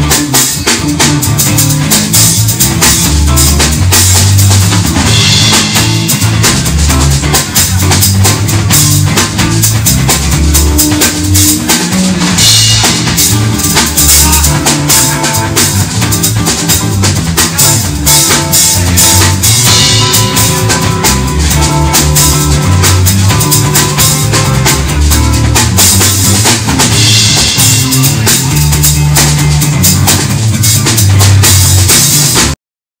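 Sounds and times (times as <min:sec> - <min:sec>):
bass drum and snare hits: 0:00.0 - 0:32.6
bass line: 0:00.0 - 0:32.6
live band playing: 0:00.0 - 0:32.6.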